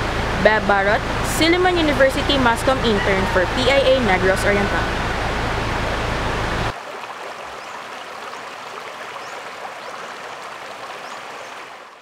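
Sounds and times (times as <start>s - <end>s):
river water rushing in rapids: 0.0s - 12.0s.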